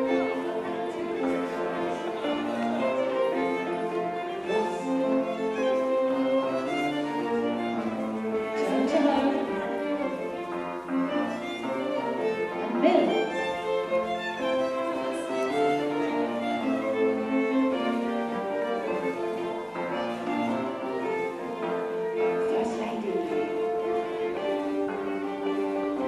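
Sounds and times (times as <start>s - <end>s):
fiddle-led country dance tune: 0.0s - 26.0s.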